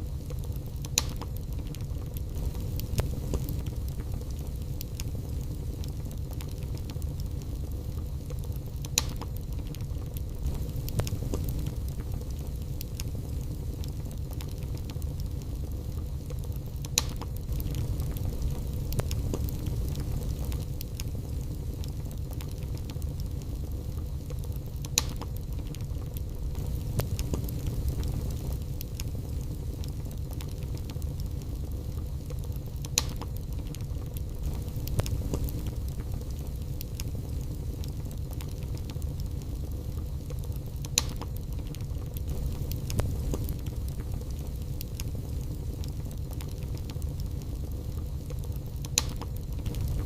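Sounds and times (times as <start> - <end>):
wood fire crackling in fireplace: 0.0 - 50.0.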